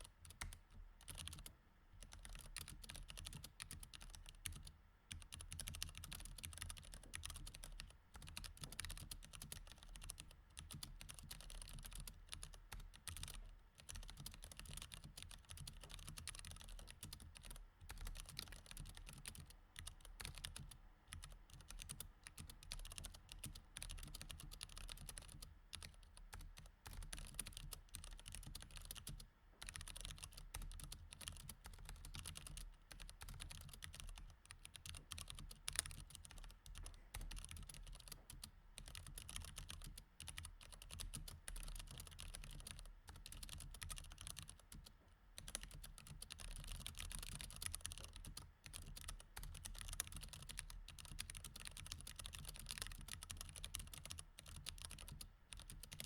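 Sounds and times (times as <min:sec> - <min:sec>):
mechanical keyboard typing: 0:00.2 - 0:56.0.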